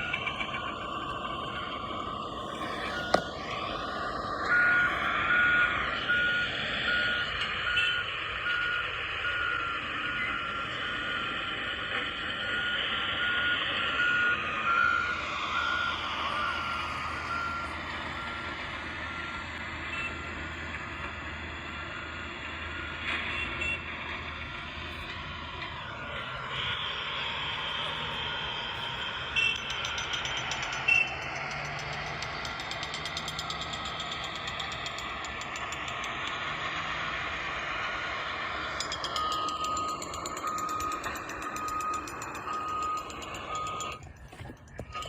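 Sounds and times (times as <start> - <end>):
reversing alarm beeping: 0.0 - 24.0, 24.6 - 36.4, 37.4 - 45.0
engine and traffic noise: 0.0 - 45.0.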